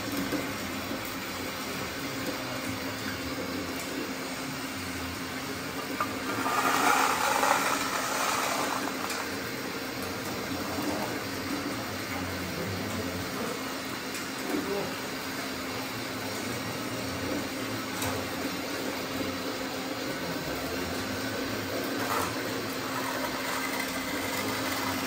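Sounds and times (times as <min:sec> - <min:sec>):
machines mechanical hum: 0:00.0 - 0:25.0.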